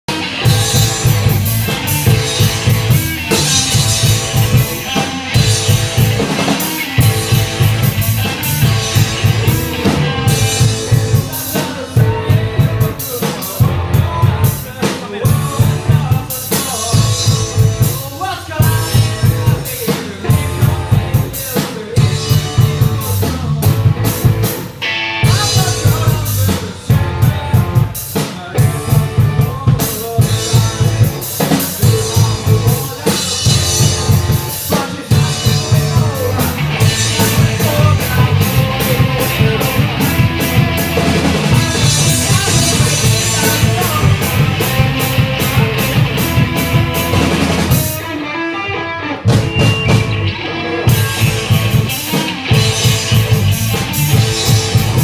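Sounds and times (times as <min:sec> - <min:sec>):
rock band playing live: 0:00.0 - 0:55.0
heavy bass drum: 0:00.1 - 0:48.0, 0:49.3 - 0:50.3, 0:50.9 - 0:55.0
person singing: 0:00.1 - 0:55.0.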